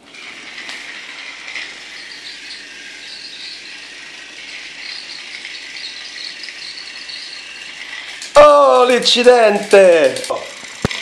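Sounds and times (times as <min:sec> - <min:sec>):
toy train motor whirring: 0:00.0 - 0:11.0
wheels rattling on plastic track: 0:00.0 - 0:11.0.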